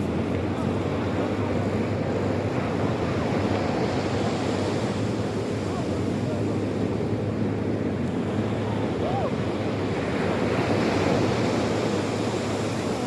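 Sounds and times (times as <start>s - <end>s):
sea waves washing ashore: 0.0s - 13.0s.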